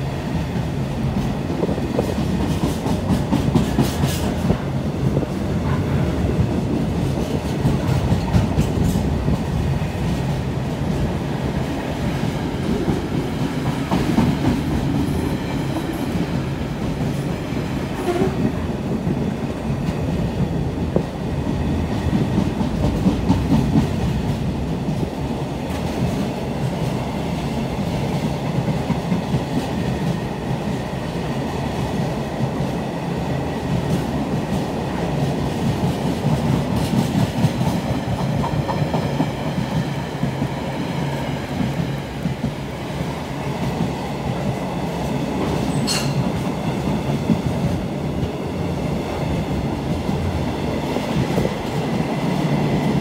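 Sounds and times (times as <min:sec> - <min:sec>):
train wagons rumbling on rails: 0:00.0 - 0:53.0.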